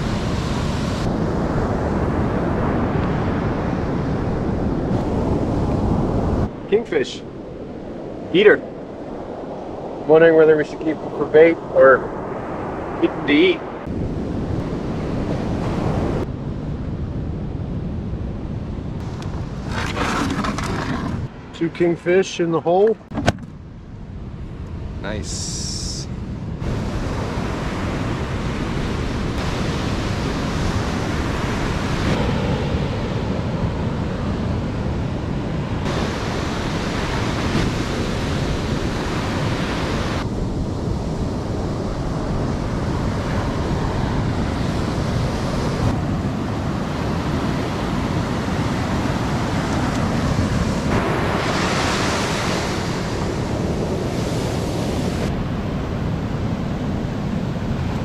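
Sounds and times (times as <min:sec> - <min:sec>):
ocean waves breaking: 0:00.0 - 0:16.3, 0:19.0 - 0:23.2, 0:24.0 - 0:58.0
wind on microphone: 0:00.0 - 0:21.5, 0:23.0 - 0:58.0.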